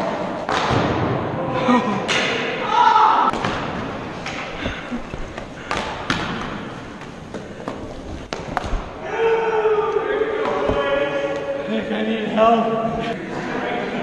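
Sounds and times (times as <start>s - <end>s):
hockey sticks and puck on gym floor: 0.0s - 14.0s.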